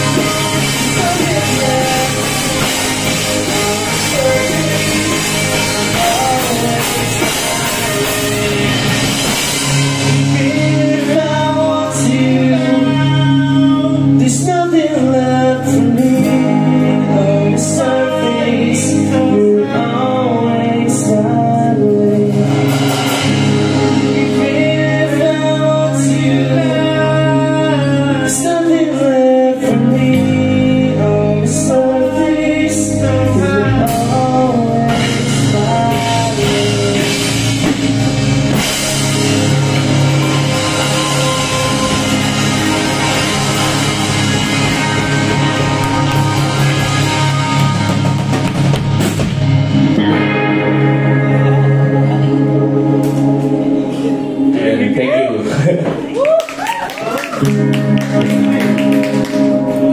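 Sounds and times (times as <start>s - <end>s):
drum kit with cymbal hits: 0.0s - 54.5s
bass guitar: 0.0s - 59.9s
electric guitars: 0.0s - 59.9s
person singing: 0.0s - 59.9s.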